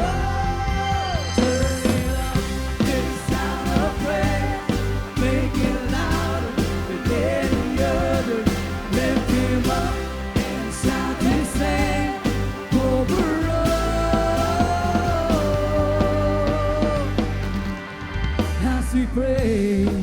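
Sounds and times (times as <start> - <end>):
steady drum beat: 0.0 - 20.0
upbeat band music: 0.0 - 20.0.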